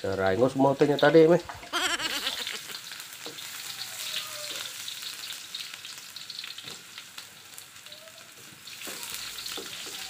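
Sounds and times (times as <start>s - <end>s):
aromatics sizzling in hot oil: 0.0s - 10.0s.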